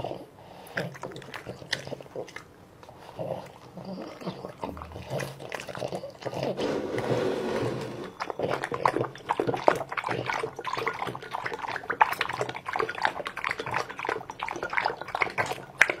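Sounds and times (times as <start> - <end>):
dog lapping and slurping: 0.0 - 6.6, 8.0 - 16.0.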